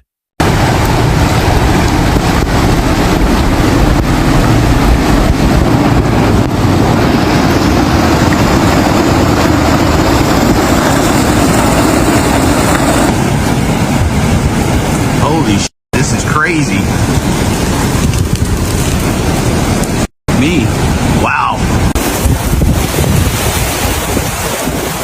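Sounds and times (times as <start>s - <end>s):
floodwater rushing: 0.0s - 25.0s
wind buffeting microphone: 0.4s - 25.0s.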